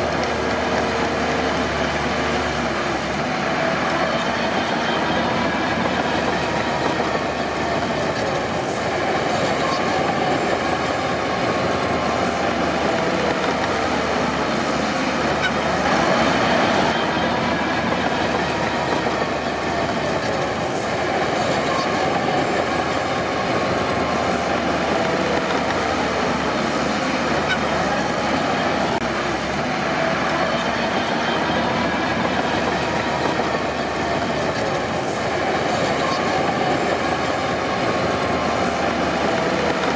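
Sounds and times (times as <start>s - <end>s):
steel tracks clanking and squealing: 0.0s - 29.0s, 29.9s - 39.9s
diesel engine running: 0.0s - 39.9s.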